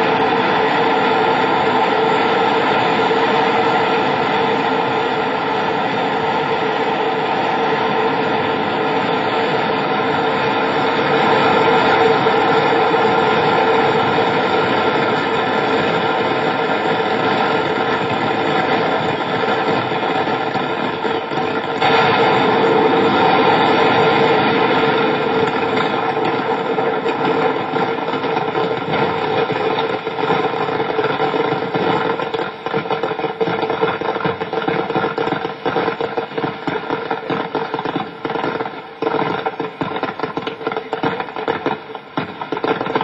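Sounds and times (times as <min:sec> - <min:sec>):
fireworks burning and crackling: 0:00.0 - 0:43.0.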